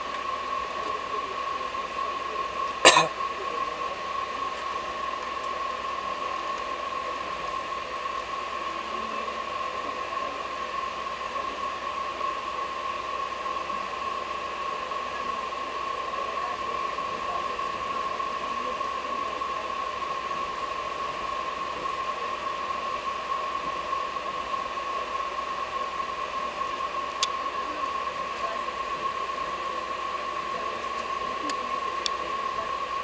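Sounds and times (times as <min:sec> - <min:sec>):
constant high tone: 0:00.0 - 0:33.0
passenger train running: 0:00.0 - 0:33.0.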